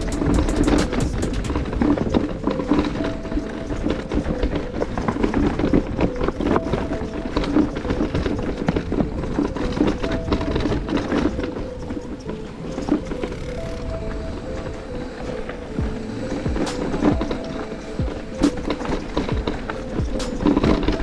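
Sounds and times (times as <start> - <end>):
background music: 0.0 - 21.0
mountain bike rattling on trail: 0.0 - 21.0.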